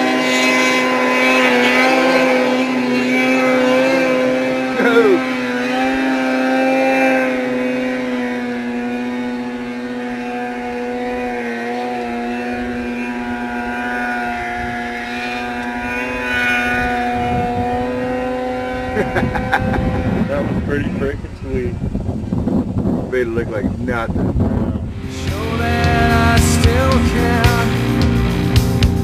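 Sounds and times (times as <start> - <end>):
snowmobile engine at high revs: 0.0 - 29.0
rough rumbling and clicks: 5.7 - 29.0.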